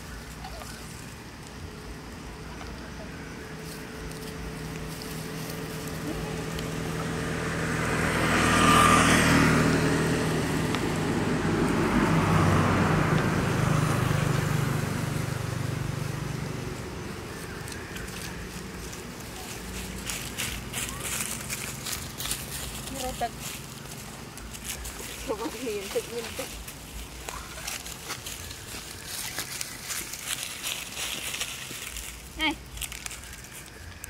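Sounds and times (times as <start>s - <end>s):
vehicle passing by: 0.0s - 34.0s.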